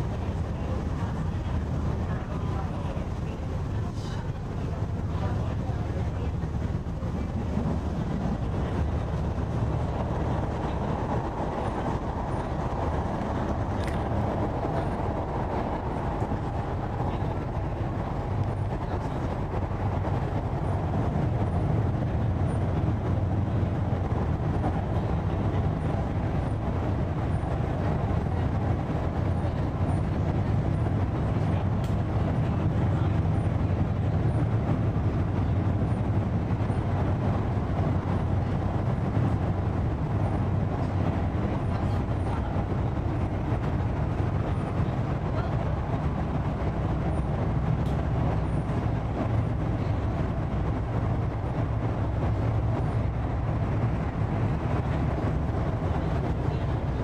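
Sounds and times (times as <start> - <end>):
electric train running noise: 0.0 - 57.0.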